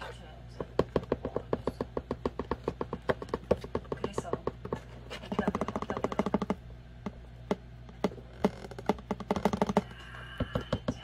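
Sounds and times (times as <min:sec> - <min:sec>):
kitten scratching cardboard: 0:00.8 - 0:10.0.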